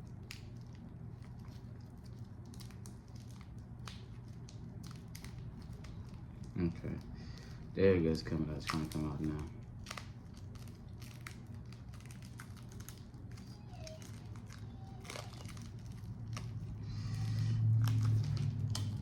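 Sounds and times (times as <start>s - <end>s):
packaging crinkling and clicking: 0.0s - 7.6s, 8.3s - 19.0s.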